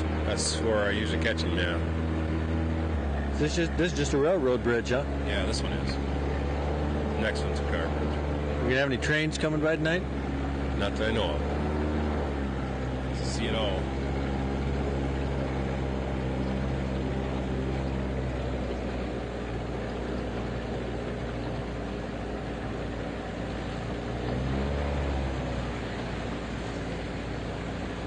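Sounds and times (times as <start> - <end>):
boat motor running: 0.0 - 28.0.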